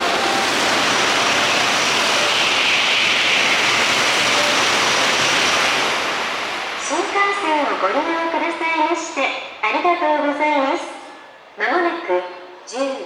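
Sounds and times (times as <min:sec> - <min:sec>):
high-speed train rushing: 0:00.0 - 0:11.7.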